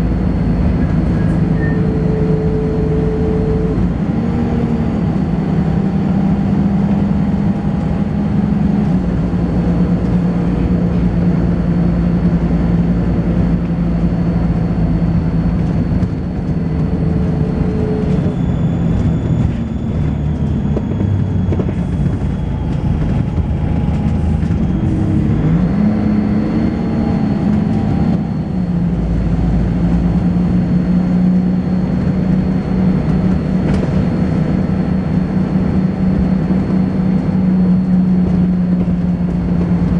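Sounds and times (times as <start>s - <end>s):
high-pitched whine: 0.0s - 39.6s
bus engine running: 0.0s - 39.9s.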